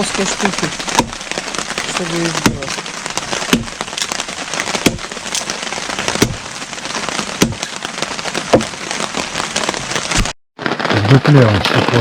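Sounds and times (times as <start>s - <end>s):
heavy rain falling: 0.0s - 12.0s
knocking blows splitting log: 0.7s - 10.4s.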